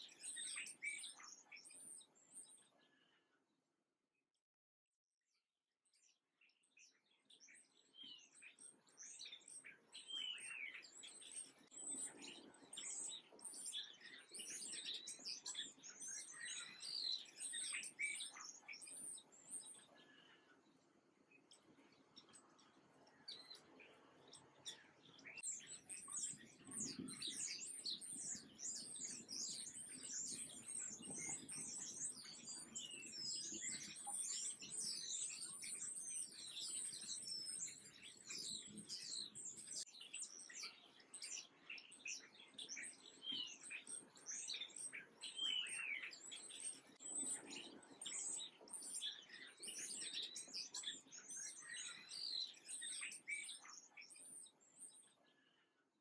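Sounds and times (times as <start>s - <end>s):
songbirds chirping and twittering: 0.0s - 3.6s, 5.8s - 56.0s.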